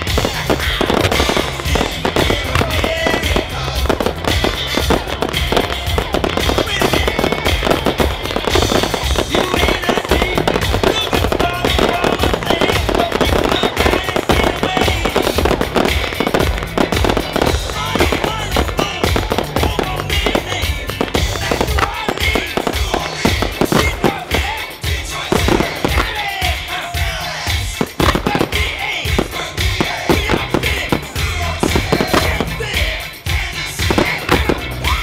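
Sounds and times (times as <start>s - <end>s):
fireworks exploding: 0.0s - 35.0s
music playing: 0.0s - 35.0s.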